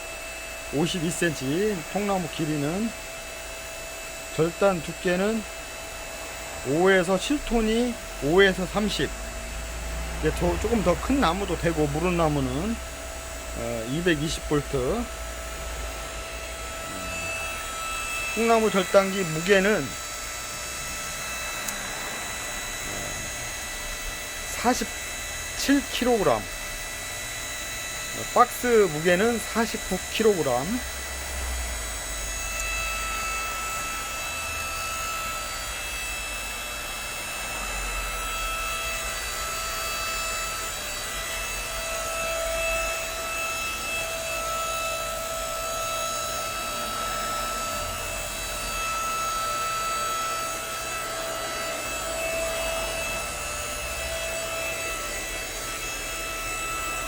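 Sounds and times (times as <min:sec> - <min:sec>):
log splitter motor and pump whine: 0:00.0 - 0:57.0.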